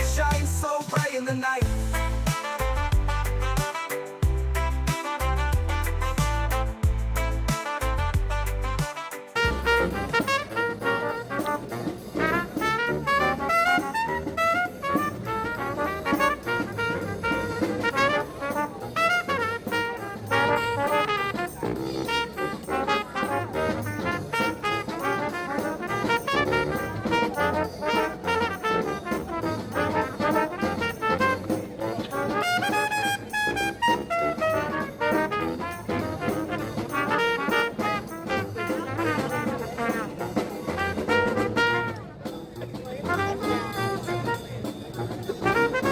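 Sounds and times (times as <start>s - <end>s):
brass band playing jazz: 0.0s - 1.0s, 1.6s - 45.9s.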